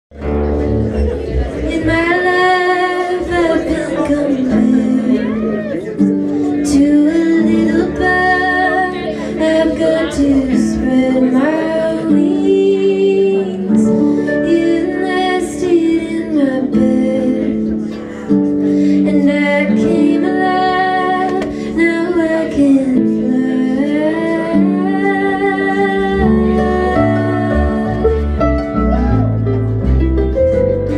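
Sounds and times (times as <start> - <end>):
acoustic guitar: 0.1 - 30.9
harp: 0.2 - 30.9
woman singing: 1.6 - 29.1.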